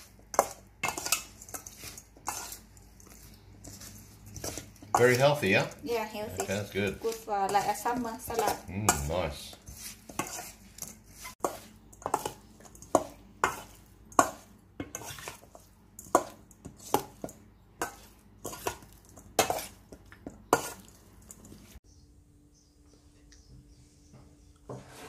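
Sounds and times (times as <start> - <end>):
wet rustling of salad: 0.0 - 21.8.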